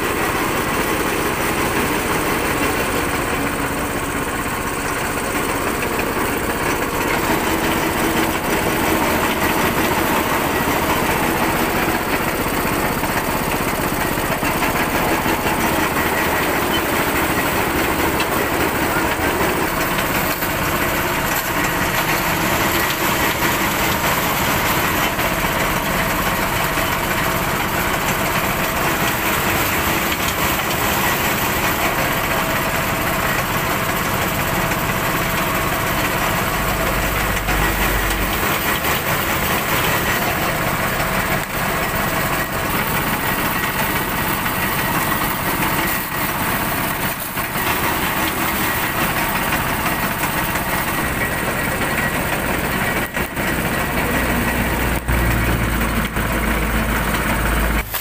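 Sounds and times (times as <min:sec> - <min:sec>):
rollers crushing cane stalks: 0:00.0 - 0:58.0
small engine running: 0:00.0 - 0:58.0.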